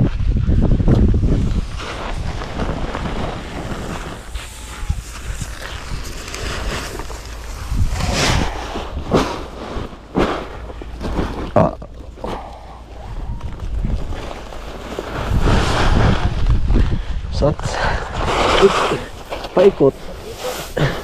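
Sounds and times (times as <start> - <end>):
wind rumbling on microphone: 0.0 - 20.3.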